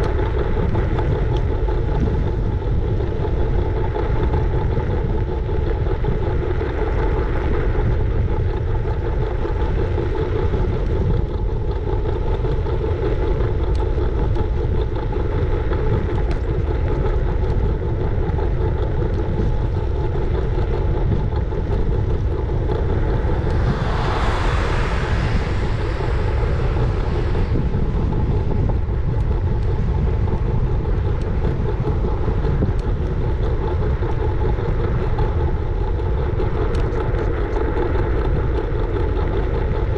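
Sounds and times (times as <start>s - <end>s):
wheels rolling on road: 0.0s - 39.9s
wind rumble on microphone: 0.0s - 39.9s.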